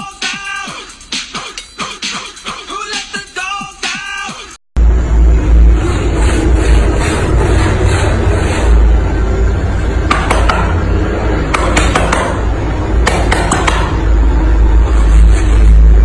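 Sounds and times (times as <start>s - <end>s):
background music with deep bass: 0.0s - 16.0s.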